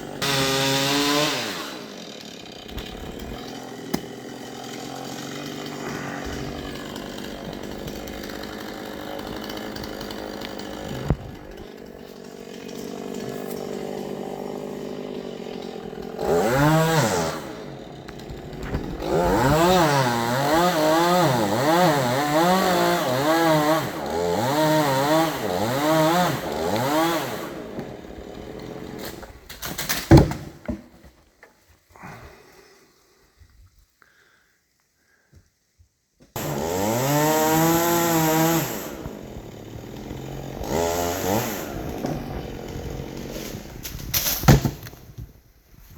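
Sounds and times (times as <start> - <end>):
chainsaw revving: 0.0 - 30.0, 36.4 - 44.8.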